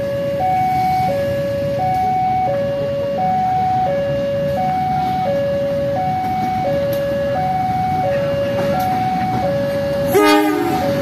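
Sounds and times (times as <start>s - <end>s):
diesel locomotive running: 0.0s - 11.0s
level crossing two-tone alarm: 0.0s - 11.0s.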